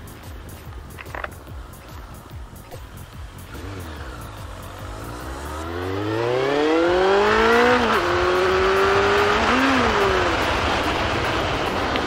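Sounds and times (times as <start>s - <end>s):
motorcycle engine accelerating: 0.0s - 12.0s
road and wind noise: 0.0s - 12.0s.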